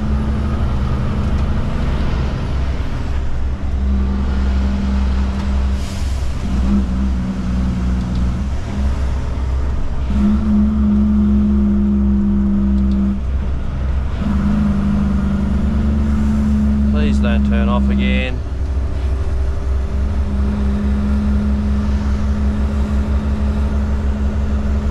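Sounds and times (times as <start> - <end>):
diesel truck engine rumbling: 0.0 - 24.9
engine hum: 0.0 - 24.9.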